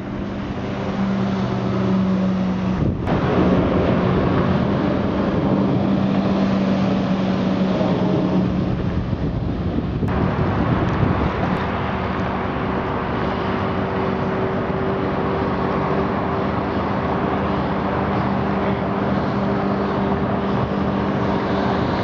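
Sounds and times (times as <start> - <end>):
outboard motor humming: 0.0 - 22.0
water rushing past boat: 0.0 - 22.0.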